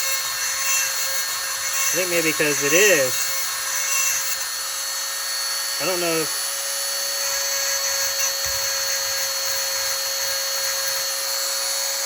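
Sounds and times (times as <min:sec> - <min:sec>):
chainsaw sharpener grinding whine: 0:00.0 - 0:12.0.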